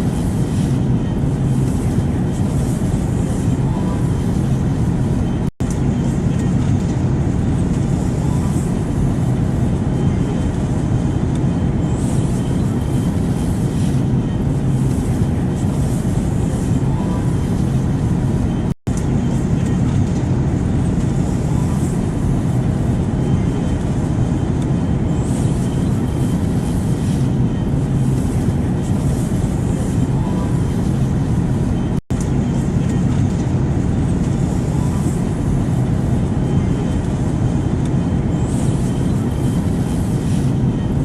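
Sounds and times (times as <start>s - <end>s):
airplane engines rumbling: 0.0s - 41.0s.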